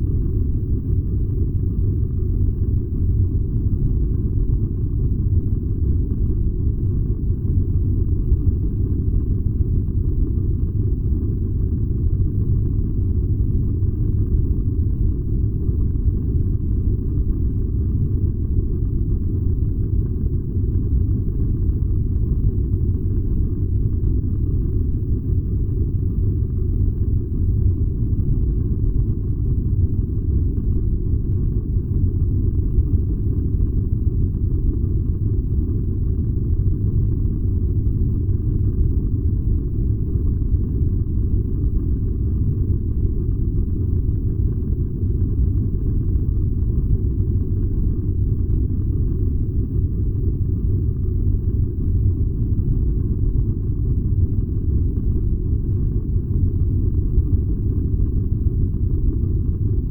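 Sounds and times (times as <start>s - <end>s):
furnace burning rumble: 0.0s - 59.9s.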